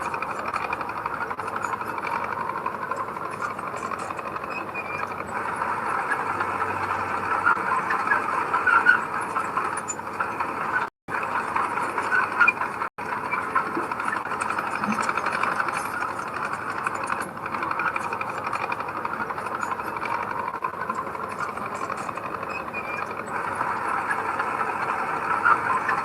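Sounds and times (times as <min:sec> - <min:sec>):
bulldozer diesel engine: 0:00.0 - 0:26.0
squeaks and rattles: 0:00.0 - 0:26.0.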